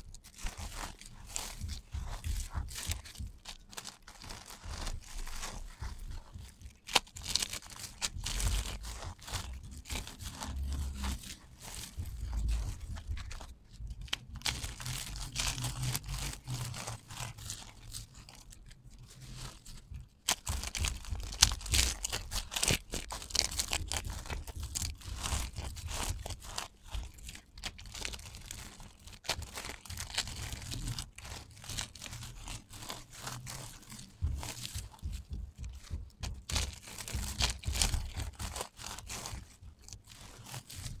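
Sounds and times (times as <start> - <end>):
soap shavings crunching in hands: 0.0 - 41.0.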